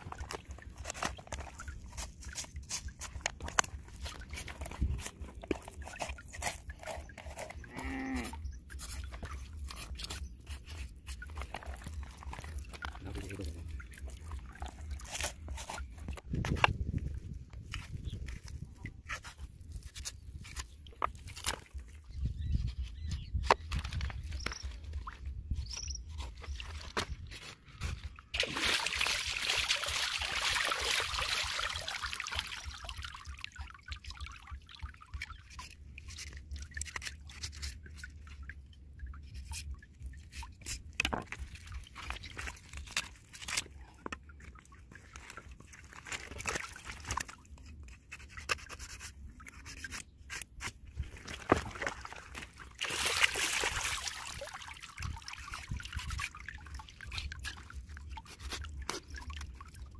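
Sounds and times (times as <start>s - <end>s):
wet handling noises: 0.0s - 59.9s.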